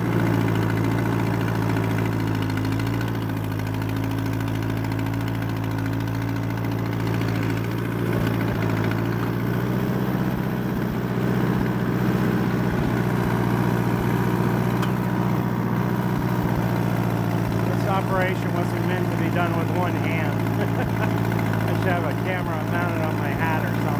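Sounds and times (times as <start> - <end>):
tractor engine running: 0.0 - 23.9.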